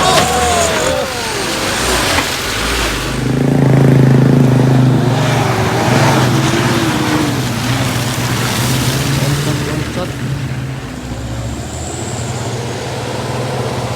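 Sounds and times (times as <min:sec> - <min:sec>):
vehicle engine under load: 0:00.0 - 0:13.9.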